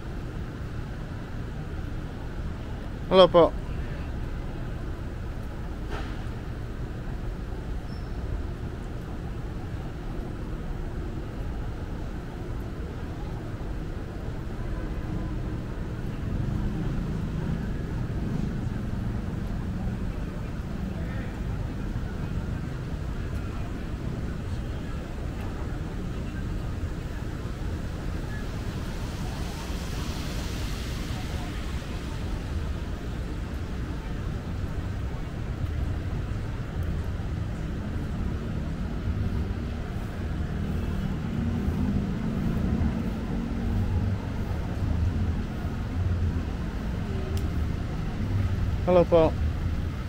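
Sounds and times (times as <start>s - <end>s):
street traffic rumble: 0.0s - 50.0s.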